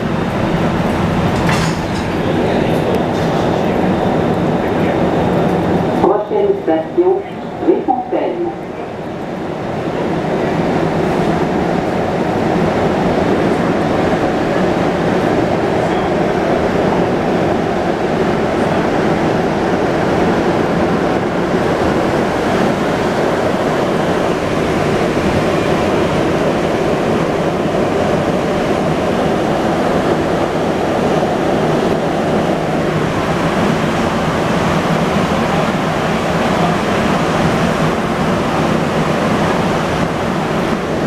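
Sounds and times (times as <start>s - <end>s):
subway car running through tunnel: 0.0s - 41.0s.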